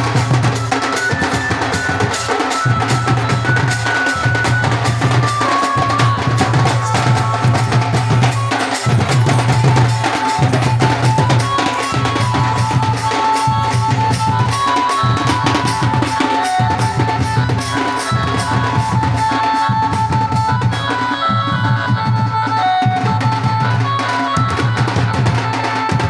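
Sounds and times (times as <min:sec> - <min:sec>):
barrel drums beaten by hand: 0:00.0 - 0:26.0
high held-note melody: 0:00.1 - 0:25.9.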